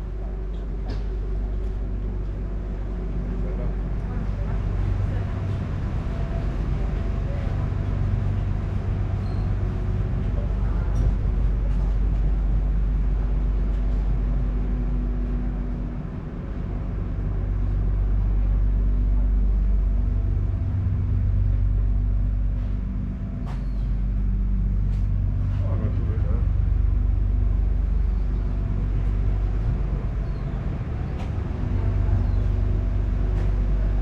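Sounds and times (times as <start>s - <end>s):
ferry engine droning: 0.0s - 34.0s.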